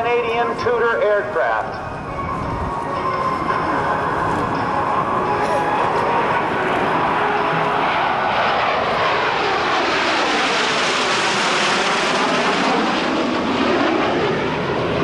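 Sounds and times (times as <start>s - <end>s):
jet planes flying past: 0.0s - 15.0s.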